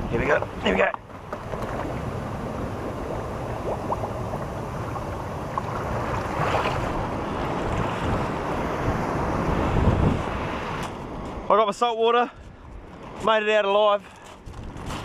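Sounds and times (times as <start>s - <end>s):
wind buffeting microphone: 0.0s - 11.5s, 14.3s - 15.0s
sea waves washing ashore: 0.0s - 14.0s.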